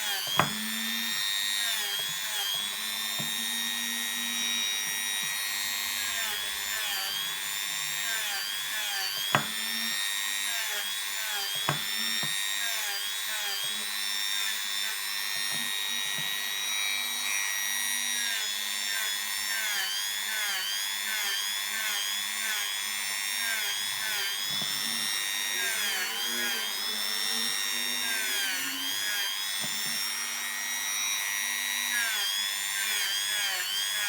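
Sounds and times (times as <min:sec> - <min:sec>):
rotary tool whine: 0:00.0 - 0:34.0.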